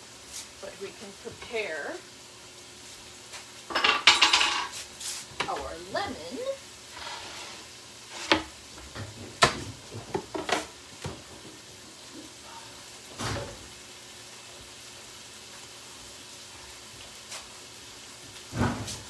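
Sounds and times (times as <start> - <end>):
bacon sizzling in a frying pan: 0.0 - 19.0.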